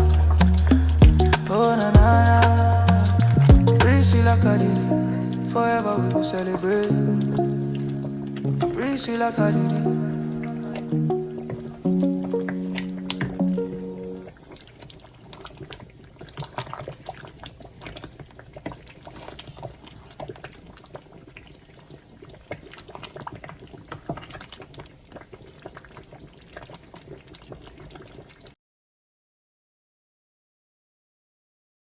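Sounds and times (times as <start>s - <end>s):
stew simmering and bubbling: 0.0s - 28.6s.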